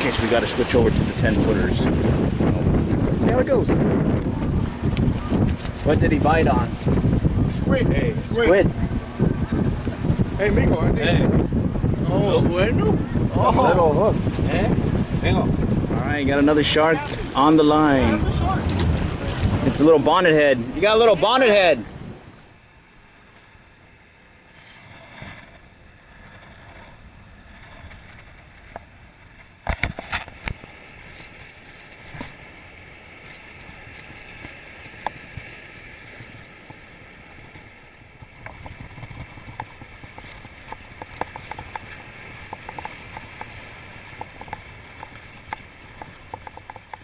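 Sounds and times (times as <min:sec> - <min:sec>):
surf breaking over rocks: 0:00.0 - 0:47.0.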